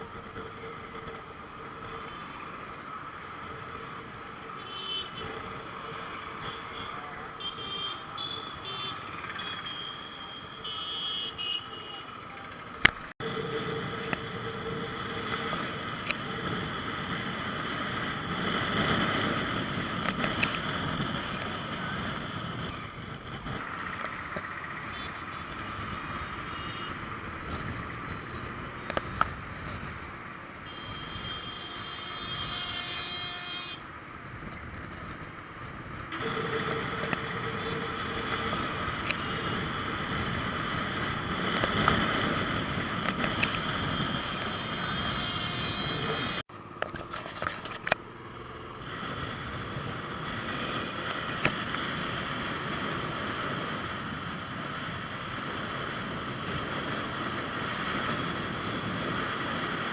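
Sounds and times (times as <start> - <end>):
passing vehicles: 0.0 - 59.9.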